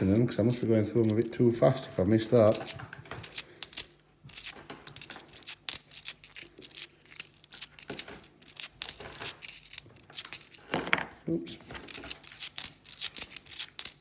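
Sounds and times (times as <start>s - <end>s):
coins clicking and scraping: 0.0s - 1.4s, 2.4s - 10.8s, 11.8s - 14.0s.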